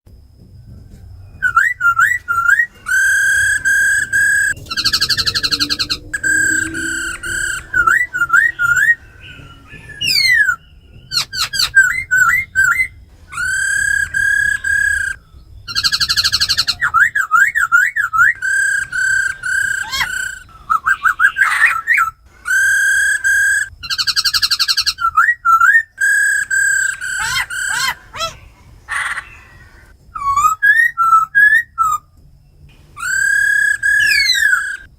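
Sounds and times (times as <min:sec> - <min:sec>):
bird whistling song with trills: 0:00.7 - 0:34.9.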